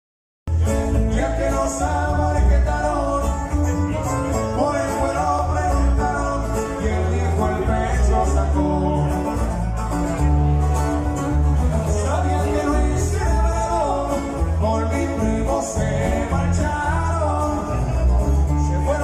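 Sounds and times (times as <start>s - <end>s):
deep steady bass line: 0.5s - 19.0s
plucked guitars: 0.5s - 19.0s.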